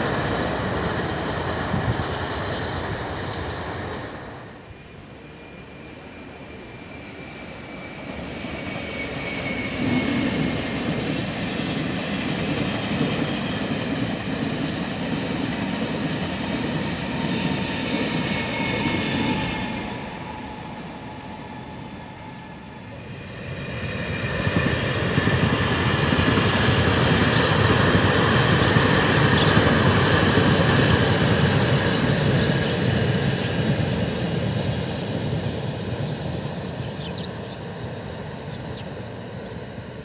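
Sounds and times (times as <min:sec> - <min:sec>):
electric train passing on rails: 0:00.0 - 0:40.0.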